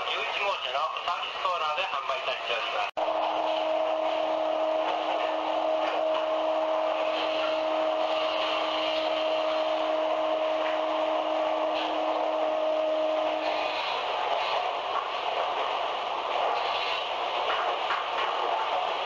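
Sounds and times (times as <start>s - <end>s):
steady train whine: 0.0s - 19.0s
train running rush: 0.0s - 19.0s.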